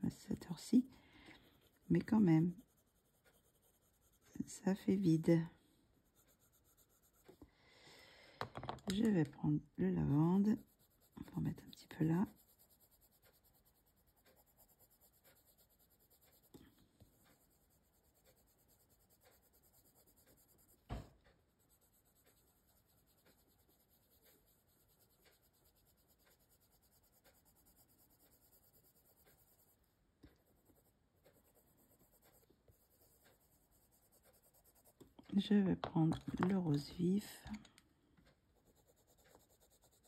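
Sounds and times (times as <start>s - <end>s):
pencil scratching on paper: 0.0s - 7.4s, 9.9s - 35.6s, 38.6s - 40.0s.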